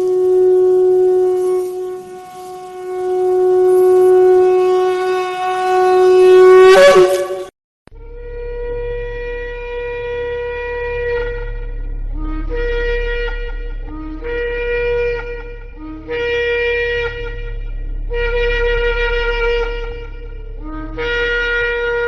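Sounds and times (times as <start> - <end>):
shofar blast: 0.0 - 22.0.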